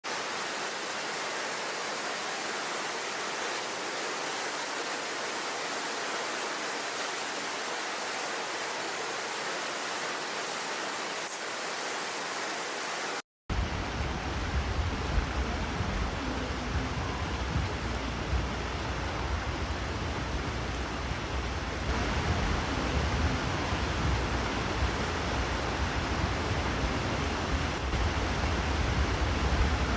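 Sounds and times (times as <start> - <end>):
rushing water: 0.0 - 29.9.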